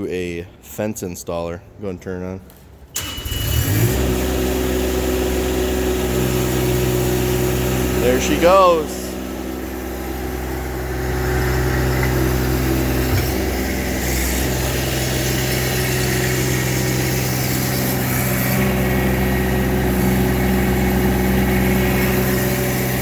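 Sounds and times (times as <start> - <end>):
skid steer engine running: 3.0 - 23.0.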